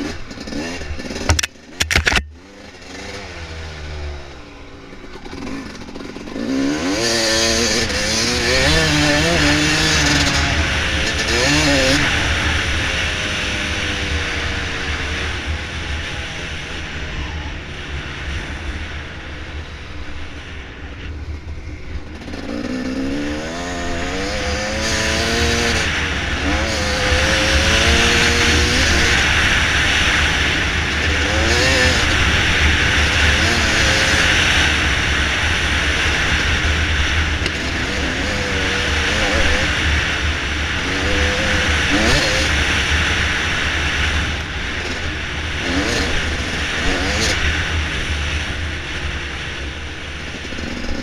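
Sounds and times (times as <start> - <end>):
dirt bike engine revving: 0.0 - 19.4, 22.0 - 51.0
steady rushing noise: 0.0 - 51.0.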